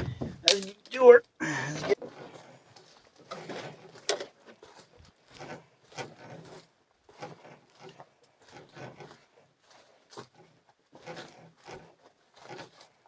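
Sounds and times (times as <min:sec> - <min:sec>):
footsteps on forest trail: 0:02.0 - 0:13.0.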